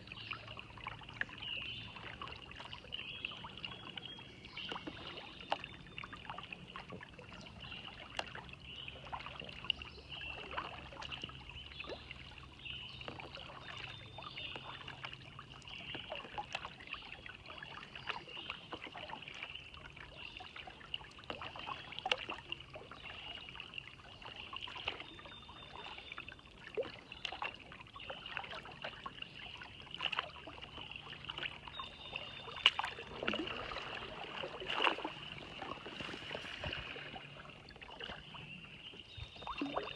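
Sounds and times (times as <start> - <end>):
water trickling: 0.0 - 39.9
paddle splashing water: 0.2 - 39.9.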